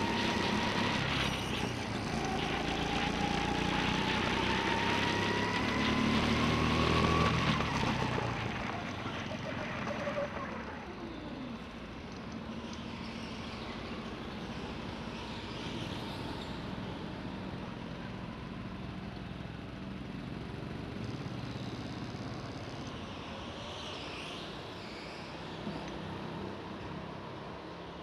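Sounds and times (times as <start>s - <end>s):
go-kart engines idling: 0.0s - 23.6s.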